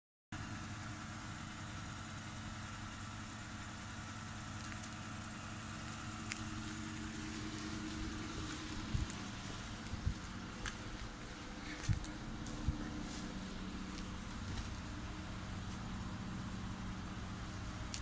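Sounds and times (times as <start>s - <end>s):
car engine idling: 0.4s - 18.0s.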